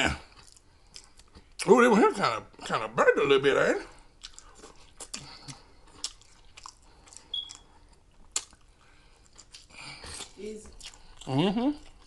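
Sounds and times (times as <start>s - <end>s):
person chewing food: 0.0s - 2.9s, 3.8s - 12.0s.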